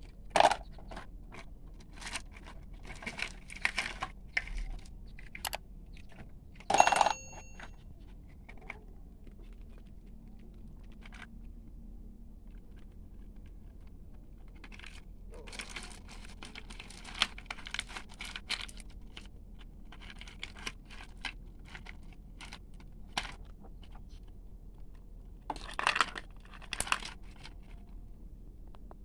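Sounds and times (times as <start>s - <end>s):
toys and stones clicking and rattling: 0.0s - 11.6s, 12.4s - 28.0s.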